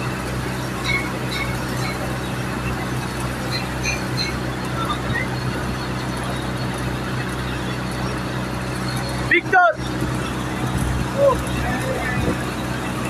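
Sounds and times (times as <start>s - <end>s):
engine humming: 0.0s - 13.0s
welding arc crackling: 0.0s - 13.0s.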